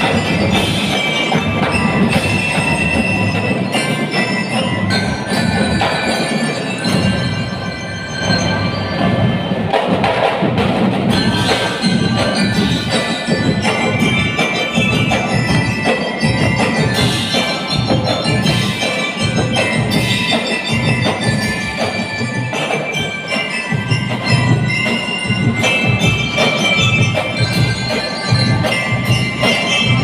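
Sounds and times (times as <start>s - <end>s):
snare and bass drums: 0.0s - 7.6s, 8.2s - 30.0s
bell lyres playing melody: 0.0s - 30.0s
keyboard mallet percussion: 0.0s - 30.0s.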